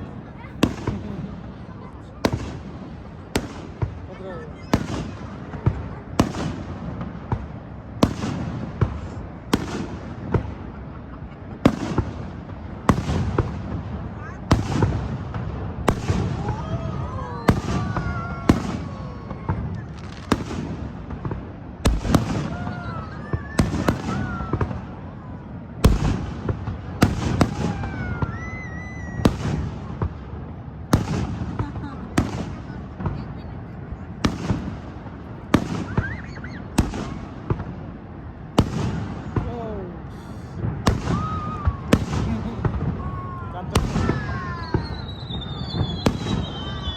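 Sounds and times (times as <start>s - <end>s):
fireworks bangs with echo: 0.0s - 46.9s.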